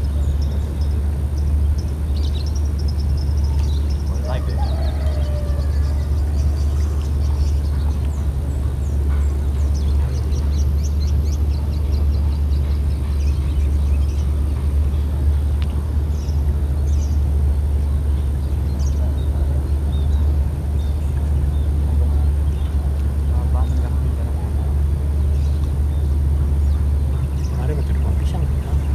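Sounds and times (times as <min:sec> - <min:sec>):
small birds chirping: 0:00.0 - 0:28.9
steady low rumble: 0:00.0 - 0:28.9.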